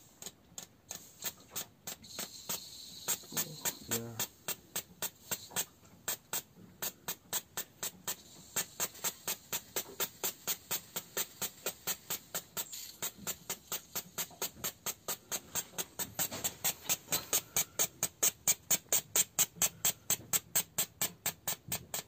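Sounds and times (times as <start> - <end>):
fuel injector clicking: 0.1 - 22.0
hiss: 0.9 - 22.0.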